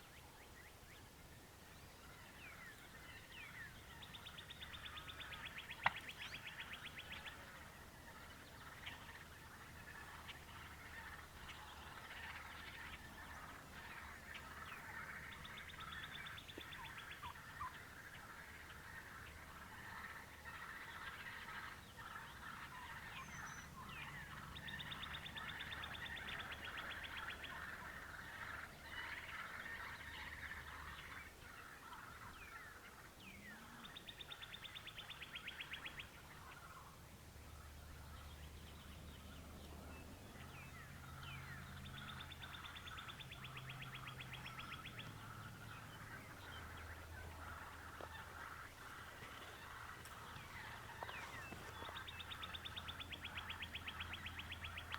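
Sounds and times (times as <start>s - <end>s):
songbirds chirping and whistling: 0.0s - 54.9s.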